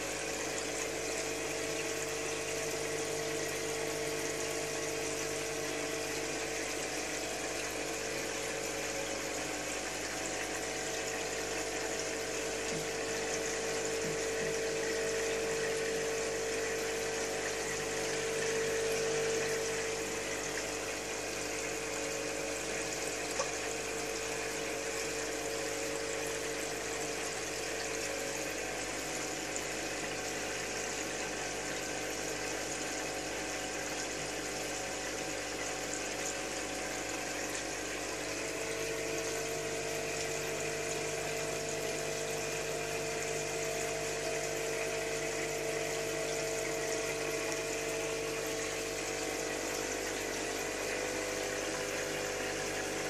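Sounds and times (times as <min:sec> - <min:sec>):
motor hum: 0:00.0 - 0:53.0
water bubbling and splashing: 0:00.1 - 0:53.0.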